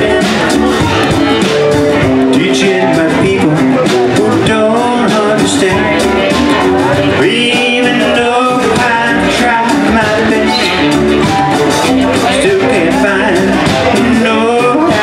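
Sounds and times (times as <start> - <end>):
saxophone melody: 0.0 - 3.8, 5.7 - 14.7
electric bass: 0.0 - 15.0
keyboard: 0.0 - 15.0
strummed acoustic guitar: 0.0 - 15.0.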